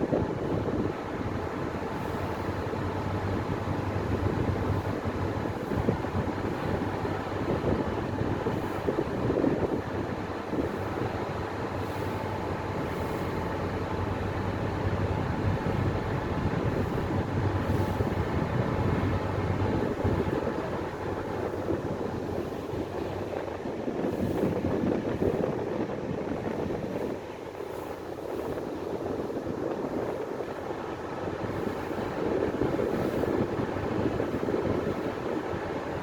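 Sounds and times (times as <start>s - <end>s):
ferry engine drone: 0.0s - 36.0s.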